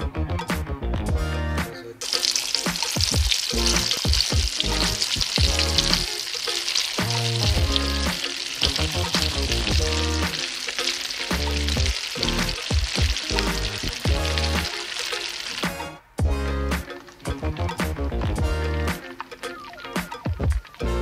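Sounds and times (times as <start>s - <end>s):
background music: 0.0s - 21.0s
oil sizzling in a pan: 2.0s - 21.0s.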